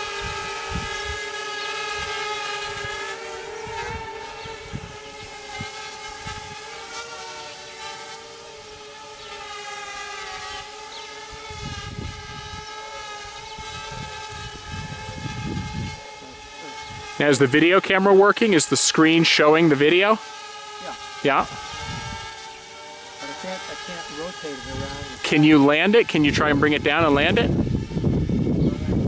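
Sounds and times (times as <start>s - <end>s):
drone propellers whining: 0.0s - 29.0s.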